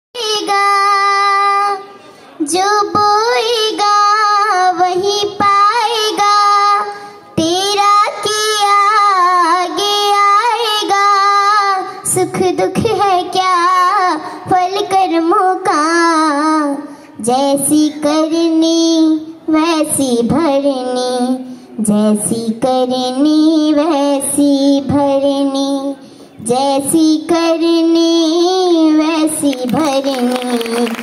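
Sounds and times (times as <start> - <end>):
girl singing into a microphone: 0.1 - 31.0.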